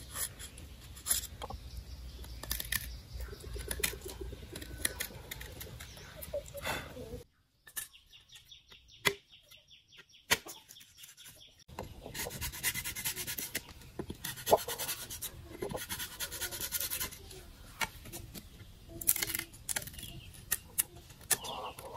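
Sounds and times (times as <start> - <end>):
bamboo rubbing and scraping: 0.0 - 8.7, 9.5 - 21.9.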